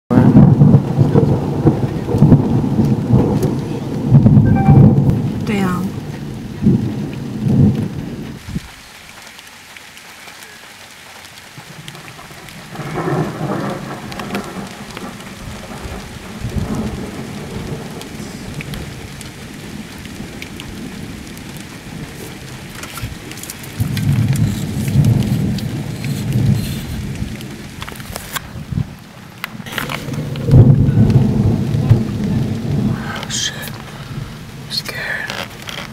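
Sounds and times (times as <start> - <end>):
thunder rumbling: 0.1 - 8.8, 11.6 - 35.9
rain on car glass and roof: 0.1 - 35.9.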